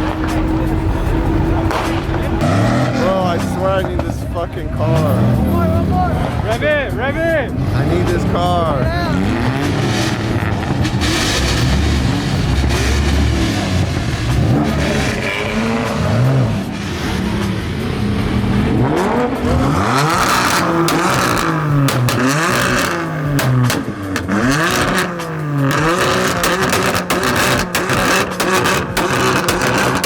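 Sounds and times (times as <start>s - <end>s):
car engine revving: 0.0s - 30.0s
exhaust cracks: 0.0s - 30.0s.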